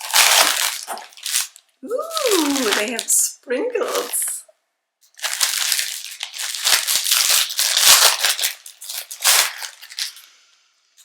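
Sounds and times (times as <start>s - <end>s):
biscuit packet crinkling: 0.0s - 4.4s, 5.0s - 10.4s.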